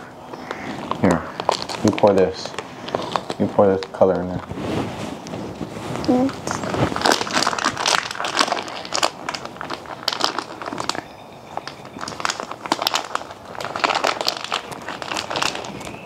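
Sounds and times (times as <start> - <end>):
crinkling and crackling materials: 0.0 - 16.0.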